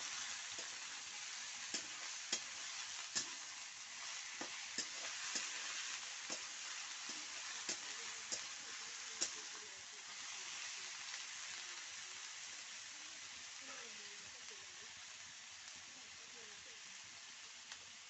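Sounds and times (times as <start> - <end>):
potatoes sizzling in a pan: 0.0 - 18.0.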